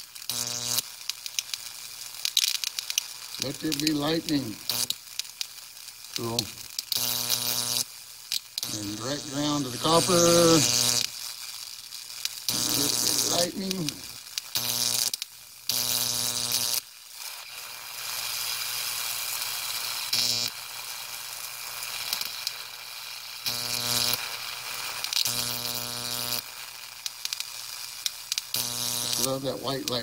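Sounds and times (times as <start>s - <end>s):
electric arcs hissing crackle: 0.0s - 30.0s
loud electrical buzz: 0.0s - 30.0s.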